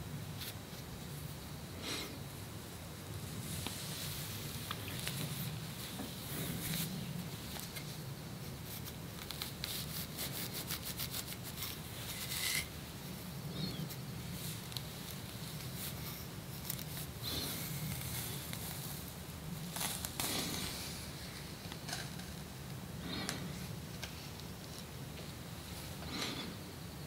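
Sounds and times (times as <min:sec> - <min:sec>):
steady low hum: 0:00.0 - 0:27.0
scratching on the scalp: 0:03.2 - 0:26.6.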